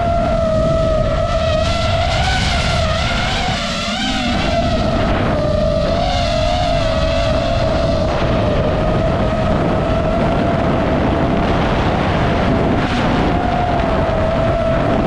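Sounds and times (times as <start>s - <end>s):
drone motors whining: 0.0s - 15.0s
wind on microphone: 0.0s - 15.0s.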